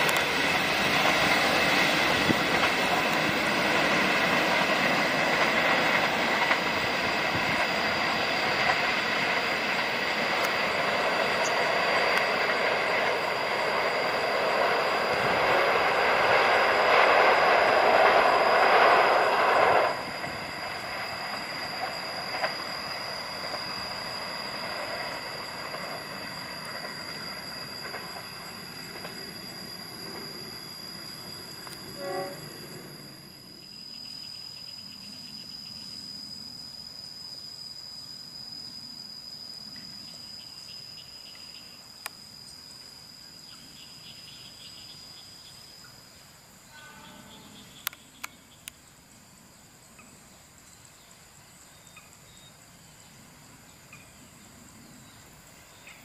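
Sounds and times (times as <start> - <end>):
train passing on rails: 0.0 - 56.0.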